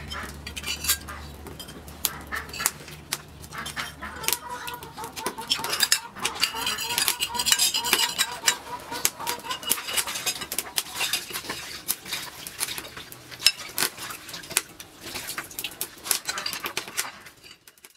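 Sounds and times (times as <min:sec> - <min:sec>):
utensils clinking on a dish: 0:00.0 - 0:17.9.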